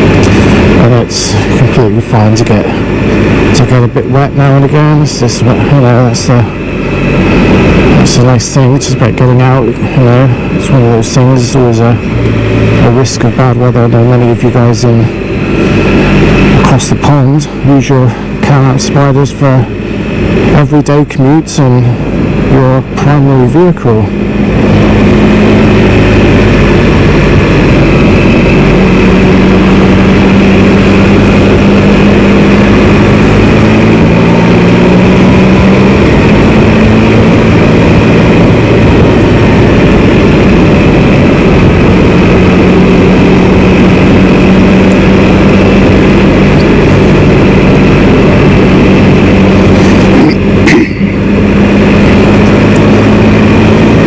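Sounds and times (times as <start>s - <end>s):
wind noise on microphone: 0.0s - 18.8s, 19.4s - 54.0s
motorcycle engine running: 0.0s - 54.0s.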